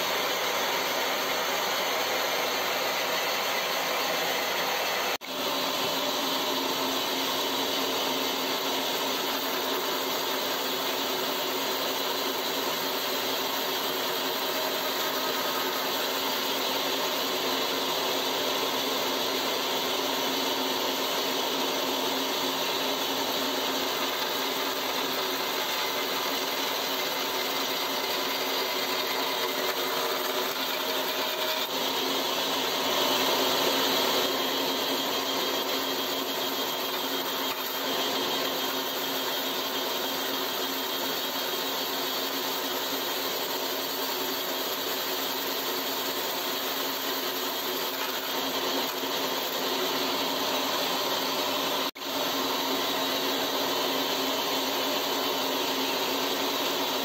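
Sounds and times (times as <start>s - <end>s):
band saw cutting wood: 0.0s - 57.0s.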